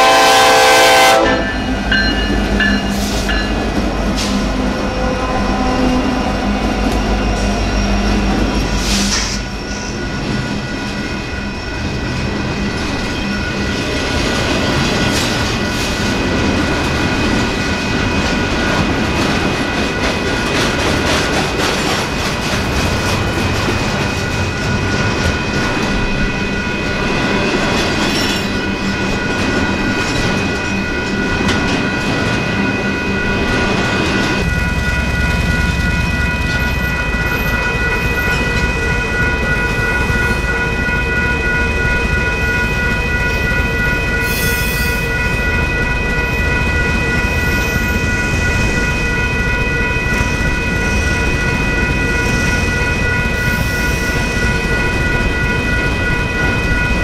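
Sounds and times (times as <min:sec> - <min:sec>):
diesel locomotive rumbling: 0:00.0 - 0:57.0
train wheels clattering on rails: 0:05.8 - 0:57.0.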